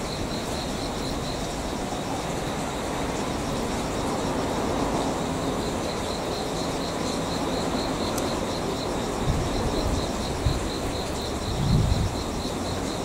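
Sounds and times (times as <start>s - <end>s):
insect chirping: 0.0s - 13.0s
low rumble of rail-yard noise: 0.0s - 13.0s.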